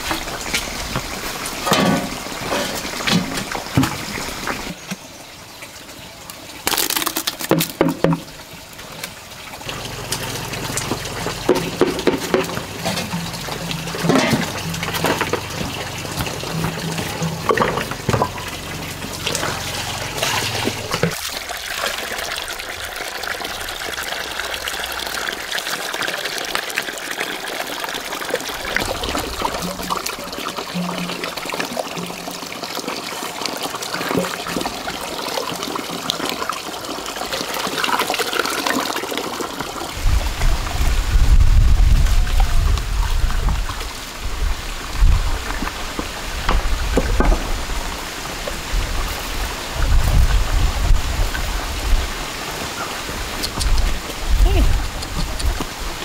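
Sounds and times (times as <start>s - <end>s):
water running and splashing: 0.0s - 56.0s.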